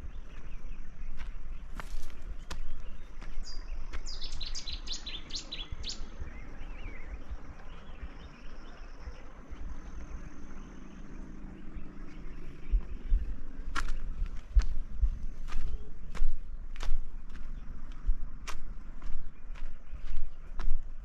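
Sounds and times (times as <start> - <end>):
songbird singing: 0.0 - 21.0
steady low rumble: 0.0 - 21.0.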